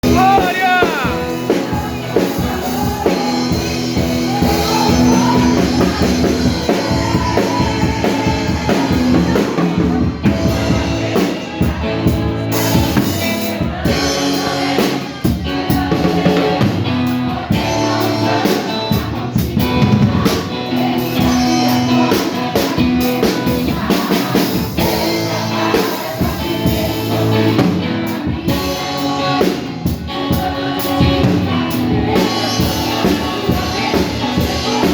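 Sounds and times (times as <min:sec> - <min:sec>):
drum kit: 0:00.0 - 0:34.9
guitar: 0:00.0 - 0:34.9
person singing: 0:00.0 - 0:34.9.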